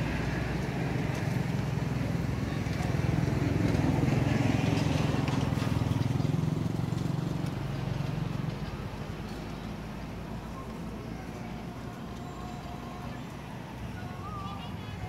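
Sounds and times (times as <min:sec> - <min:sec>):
vehicle engine passing: 0:00.0 - 0:15.0.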